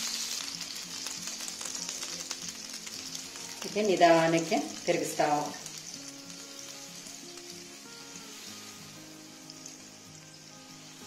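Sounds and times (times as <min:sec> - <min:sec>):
batter sizzling on griddle: 0:00.0 - 0:11.0
soft background music: 0:00.0 - 0:11.0.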